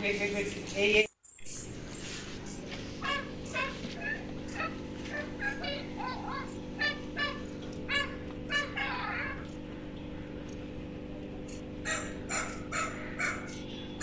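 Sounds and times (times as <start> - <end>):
steady low hum: 0.0 - 14.0
birds calling: 1.2 - 14.0.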